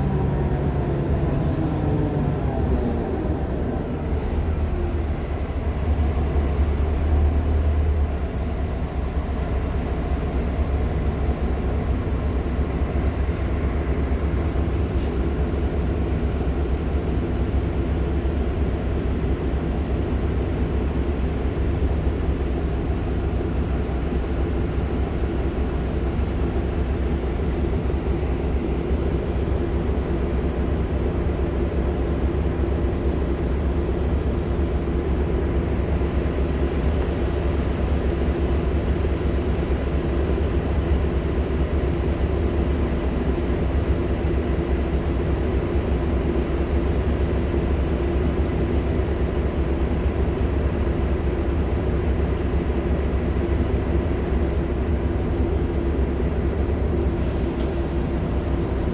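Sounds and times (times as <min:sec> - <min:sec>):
bus drivetrain hum: 0:00.0 - 0:58.9.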